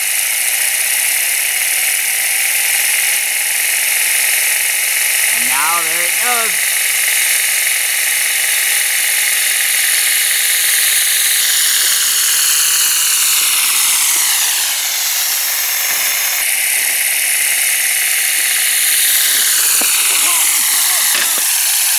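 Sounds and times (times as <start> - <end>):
high turbine whine: 0.0 - 21.9
air hiss: 2.9 - 21.9.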